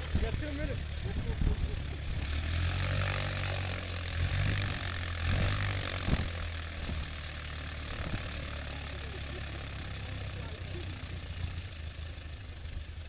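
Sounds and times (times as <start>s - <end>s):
piston aircraft engine droning: 0.0s - 13.0s.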